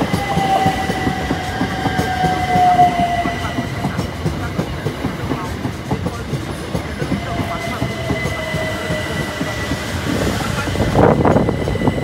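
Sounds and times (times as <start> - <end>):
train wheels knocking over rail joints: 0.0 - 12.0
train whine: 0.0 - 12.0.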